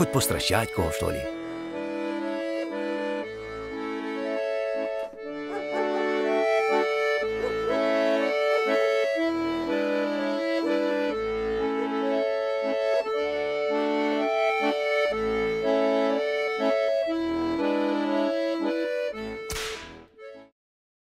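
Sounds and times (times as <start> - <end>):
accordion folk tune: 0.0 - 20.5.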